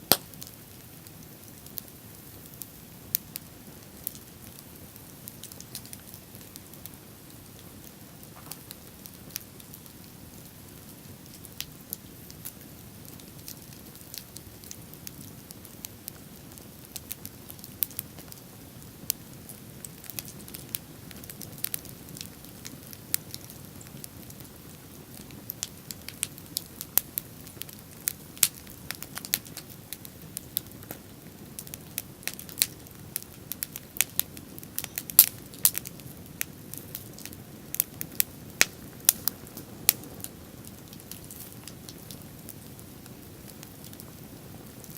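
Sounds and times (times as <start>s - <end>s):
bonfire crackling: 0.0s - 44.9s
sharp pops of fire: 0.0s - 44.9s.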